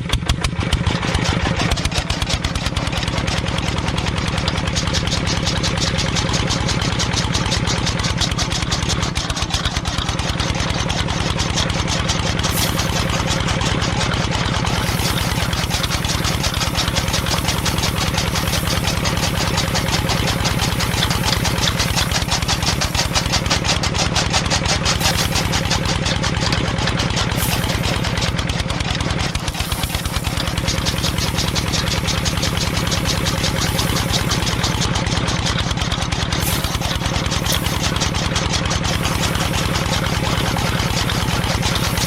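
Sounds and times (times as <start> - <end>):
small motor running: 1.0 - 42.0.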